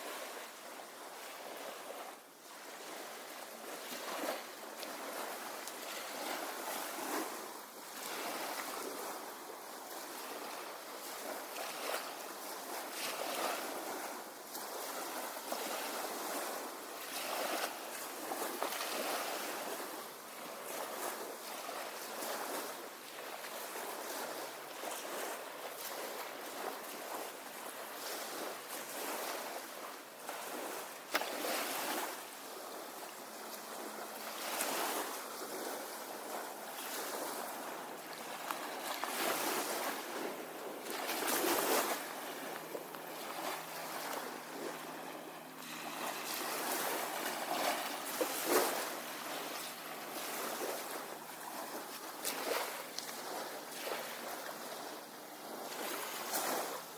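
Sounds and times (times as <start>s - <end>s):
waves washing on sandy beach: 0.0s - 56.9s
wind: 0.0s - 56.9s.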